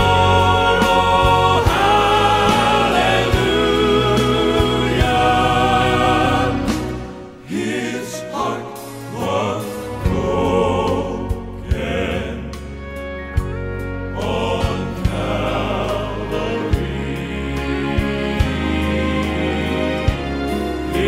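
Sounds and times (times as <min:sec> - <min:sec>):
male vocal quartet singing: 0:00.0 - 0:21.0.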